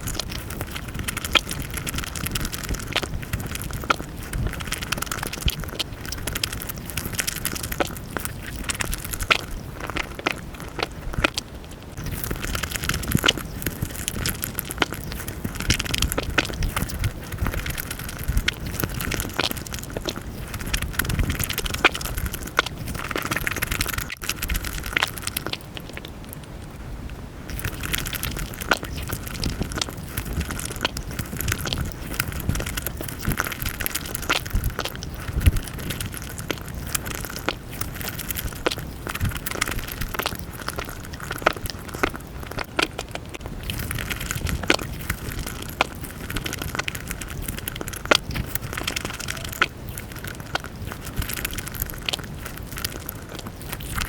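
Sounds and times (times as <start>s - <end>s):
chewing and mouth sounds: 0.0s - 26.5s, 27.5s - 54.0s
sharp clicks and crackles: 0.0s - 26.7s, 27.5s - 54.0s.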